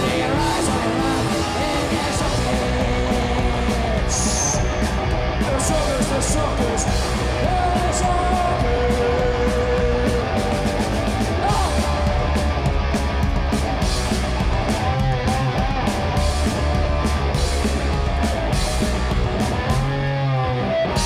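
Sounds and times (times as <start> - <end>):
drum kit playing: 0.0 - 20.2
electric guitar sustained notes: 0.0 - 21.0.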